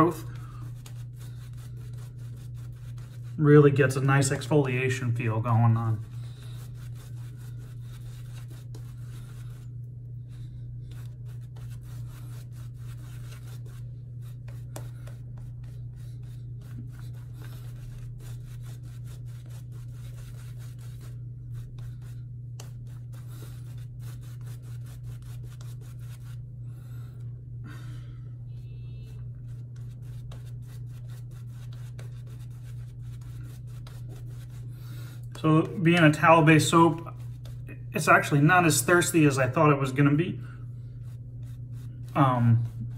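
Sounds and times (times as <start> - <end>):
shaving brush scrubbing stubble: 0.0 - 26.5, 29.0 - 40.2, 40.9 - 42.9
steady low hum: 0.0 - 42.9.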